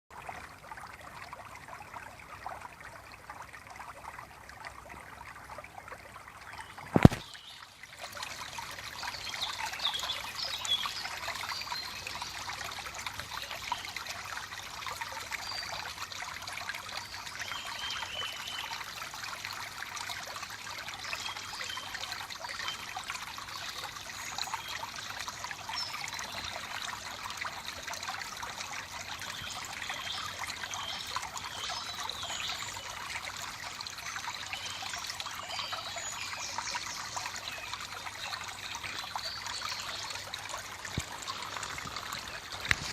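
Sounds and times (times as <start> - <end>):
stream babbling over rocks: 6.6 - 42.9.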